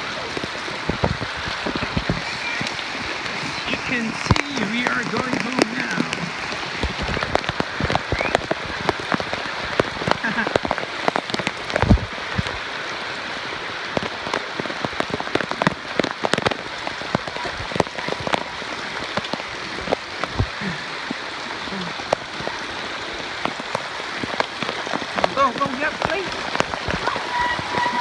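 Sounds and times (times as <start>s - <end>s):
raindrops tapping close by: 0.0s - 28.0s
steady rain: 0.0s - 28.0s.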